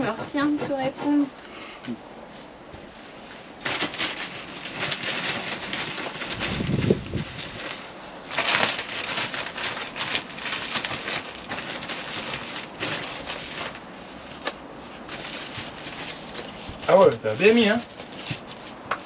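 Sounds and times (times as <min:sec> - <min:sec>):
plastic bag rustling and crinkling: 0:02.4 - 0:19.0.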